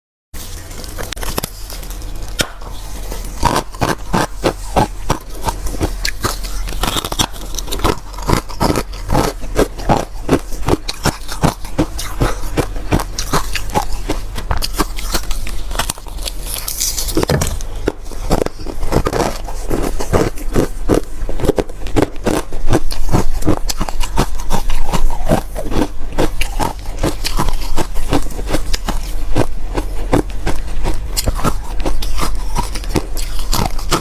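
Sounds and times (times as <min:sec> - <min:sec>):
ice crunching and scraping: 0:00.4 - 0:34.0
steady low hum: 0:00.4 - 0:34.0.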